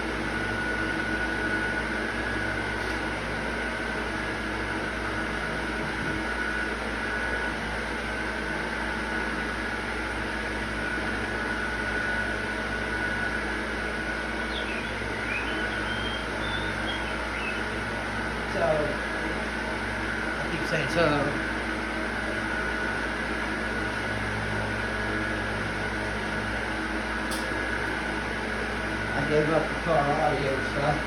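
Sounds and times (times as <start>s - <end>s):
machine hum with high whine: 0.0s - 31.0s.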